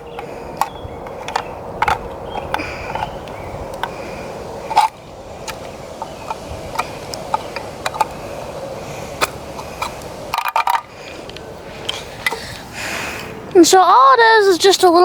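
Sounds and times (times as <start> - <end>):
metallic clicks and scrapes: 0.2 - 12.6.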